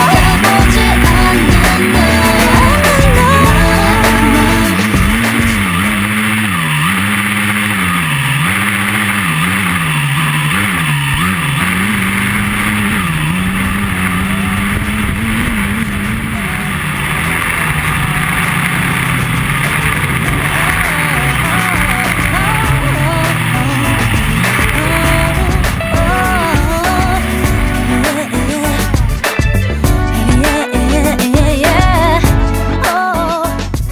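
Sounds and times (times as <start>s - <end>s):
engine speeding up and slowing: 0.0s - 32.2s.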